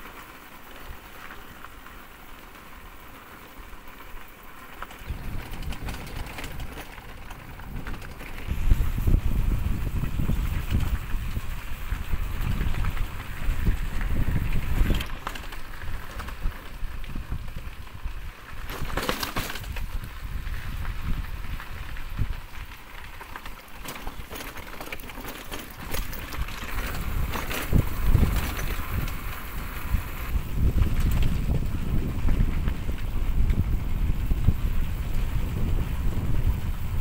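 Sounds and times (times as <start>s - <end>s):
wind buffeting microphone: 4.8s - 23.2s, 25.7s - 37.0s.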